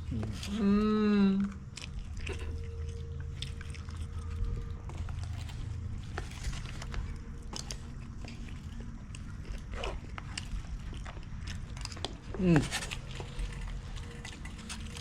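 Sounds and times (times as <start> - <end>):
person chewing: 0.0 - 0.8, 1.4 - 15.0
low steady rumble: 0.0 - 15.0.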